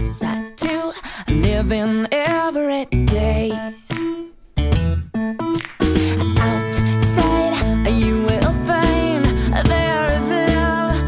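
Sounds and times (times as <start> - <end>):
person singing: 0.0 - 4.4, 6.0 - 11.0
pop music instruments with beat: 0.0 - 11.0.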